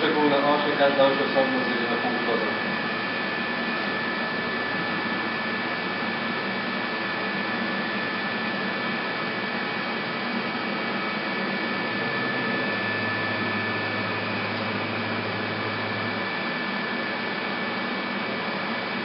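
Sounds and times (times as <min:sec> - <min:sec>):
milling machine hum: 0:00.0 - 0:19.0.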